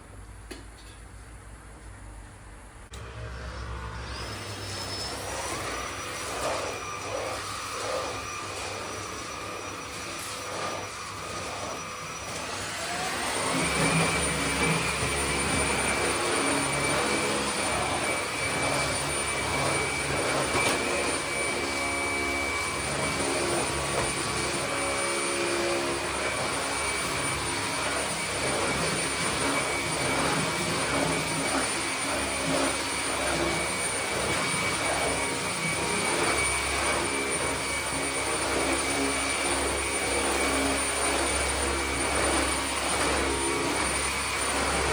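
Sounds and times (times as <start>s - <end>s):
small electric motor whining: 3.0s - 44.9s.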